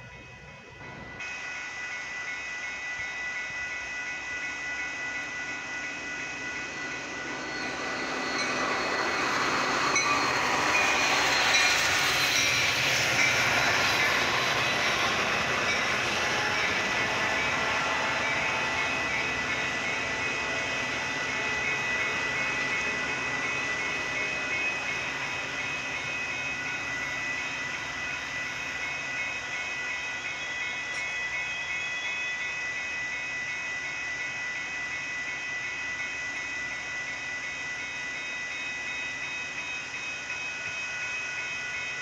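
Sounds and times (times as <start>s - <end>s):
crossing bells clanging: 0.0s - 42.0s
train passing: 0.0s - 42.0s.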